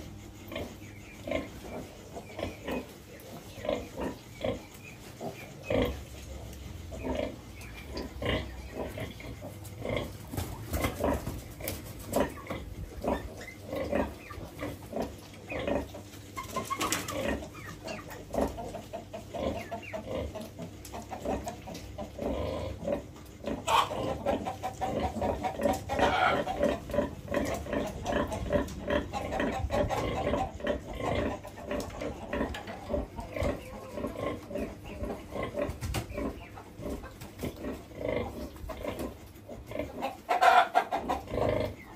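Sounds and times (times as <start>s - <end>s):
piglets grunting and squealing: 0.0s - 41.9s.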